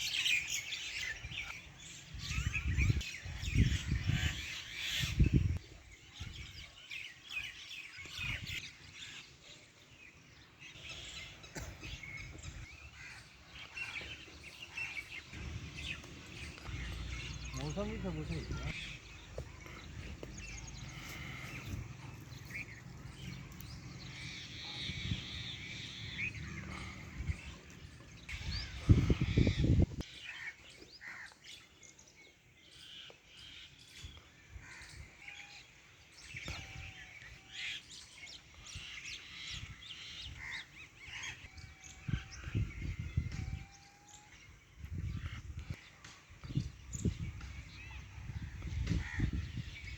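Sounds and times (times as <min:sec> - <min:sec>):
birds chirping and calling: 0:00.0 - 0:49.9.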